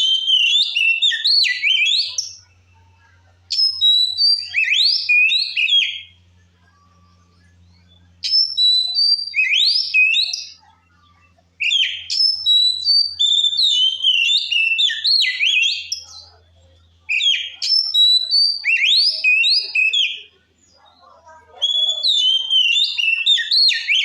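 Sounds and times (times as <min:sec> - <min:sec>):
bird singing whistles and trills: 0:00.0 - 0:02.8, 0:03.5 - 0:16.4, 0:17.0 - 0:24.0.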